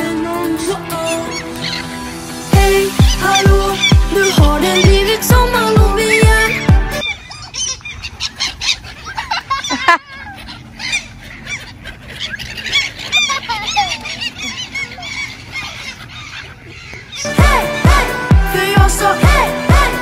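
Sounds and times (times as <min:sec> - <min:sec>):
gulls squawking: 0:00.0 - 0:20.0.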